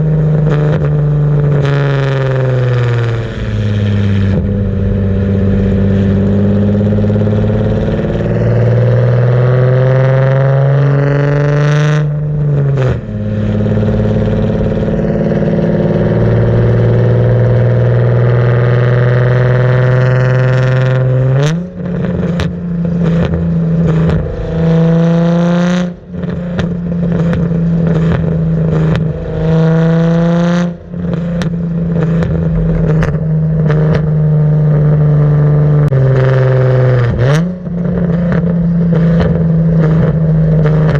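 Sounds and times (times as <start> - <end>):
exhaust cracks: 0.0 - 10.4, 12.0 - 40.9
car engine accelerating through gears: 0.0 - 40.9.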